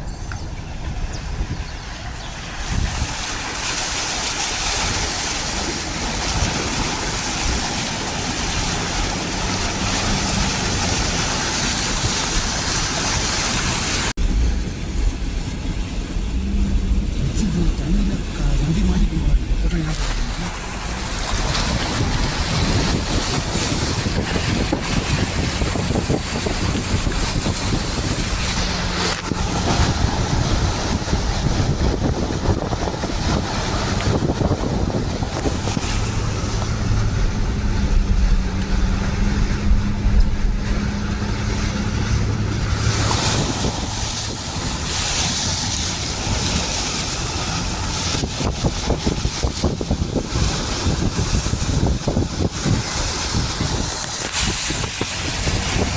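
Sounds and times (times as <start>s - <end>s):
water rushing and splashing: 0.0s - 55.9s
wind buffeting microphone: 0.0s - 55.9s
vehicle engine running: 5.7s - 55.9s.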